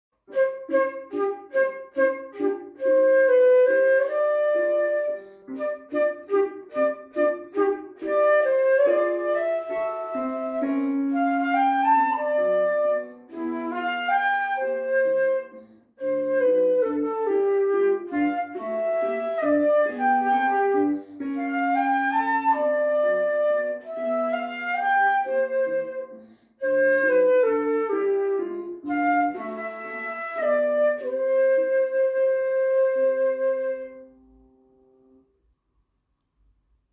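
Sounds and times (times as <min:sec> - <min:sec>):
flute playing melody: 0:00.2 - 0:34.8.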